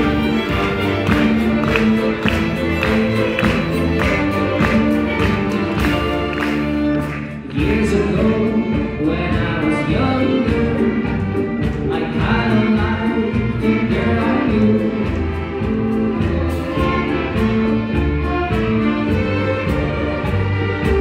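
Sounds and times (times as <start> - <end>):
solo violin lead: 0.0 - 21.0
steady beat: 0.0 - 21.0
string orchestra held chords: 0.0 - 21.0.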